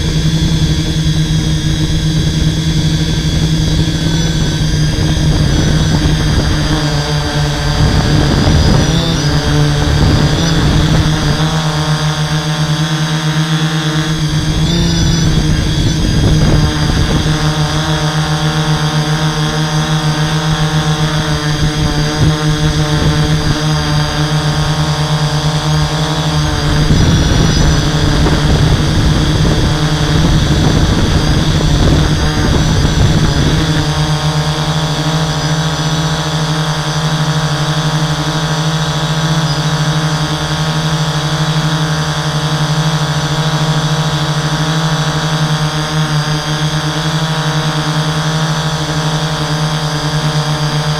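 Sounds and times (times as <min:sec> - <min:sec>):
drone motors droning: 0:00.0 - 0:50.9
wind rumble on microphone: 0:00.0 - 0:50.9.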